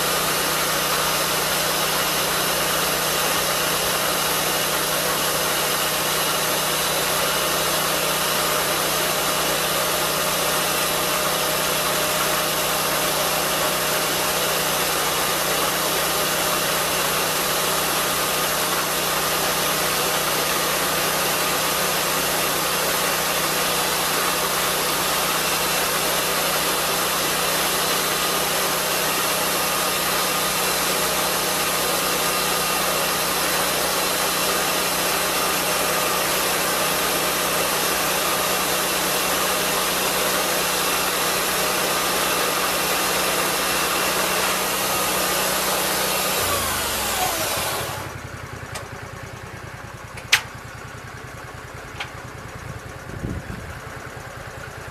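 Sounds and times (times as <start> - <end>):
sawmill blade sawing log: 0.0 - 48.2.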